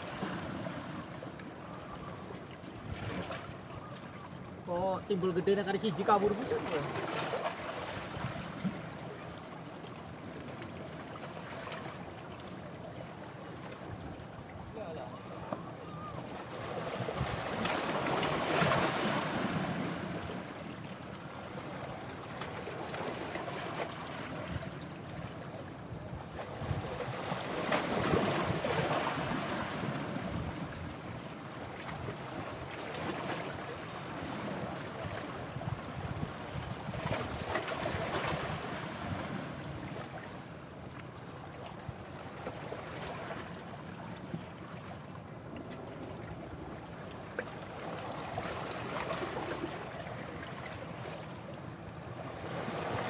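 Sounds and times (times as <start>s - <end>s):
waves washing ashore: 0.0s - 53.0s.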